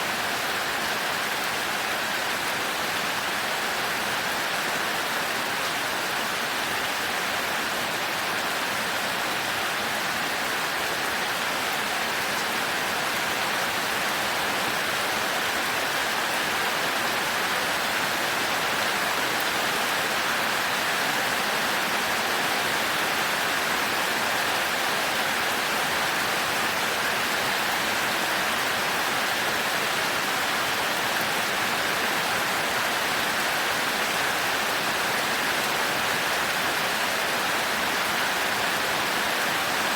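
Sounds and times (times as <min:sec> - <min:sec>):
heavy rain on a thatched roof: 0:00.0 - 0:39.9.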